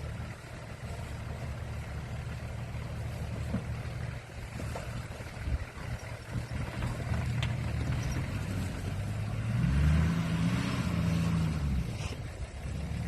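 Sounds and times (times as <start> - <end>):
vehicle engine accelerating: 0.0 - 13.0.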